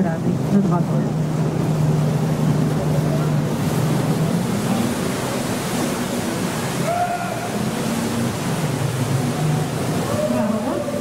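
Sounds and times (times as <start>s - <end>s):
boat engine humming: 0.0s - 11.0s
water rushing: 0.0s - 11.0s
wind: 0.0s - 11.0s.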